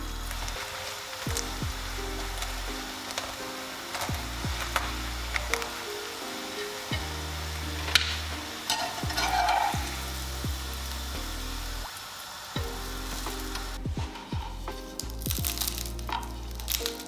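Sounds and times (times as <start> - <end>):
fat sizzling in a pan: 0.0 - 17.0.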